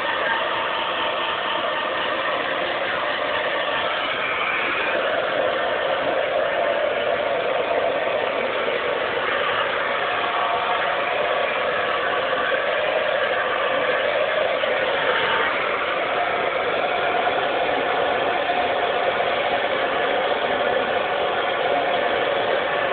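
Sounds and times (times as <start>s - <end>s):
hair dryer blowing air: 0.0s - 22.9s.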